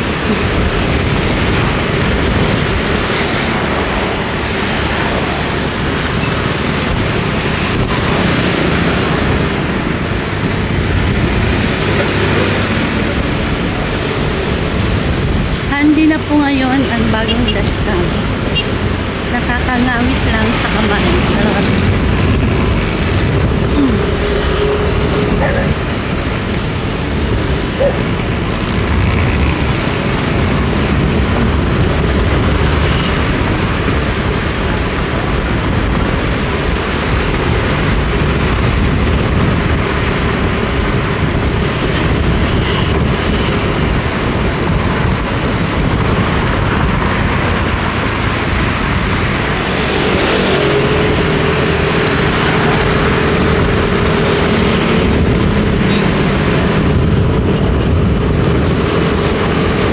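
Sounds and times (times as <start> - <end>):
engine hum: 0.0 - 59.9
vehicle road noise: 0.0 - 59.9.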